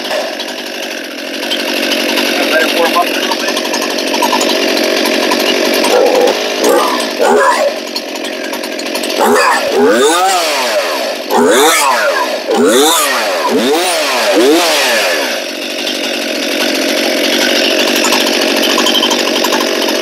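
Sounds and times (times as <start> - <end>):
chainsaw revving: 0.0 - 20.0.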